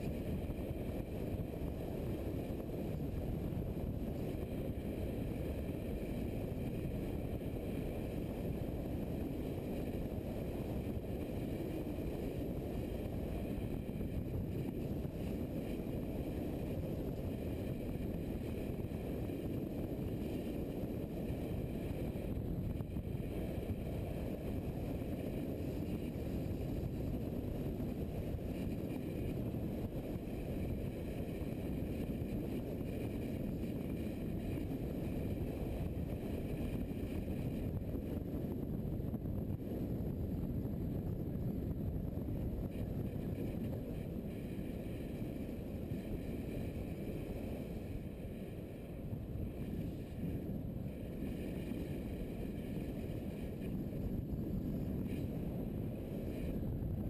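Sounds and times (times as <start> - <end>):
muffled motorcycle engine: 0.0 - 57.0
wind rushing over microphone: 0.0 - 57.0.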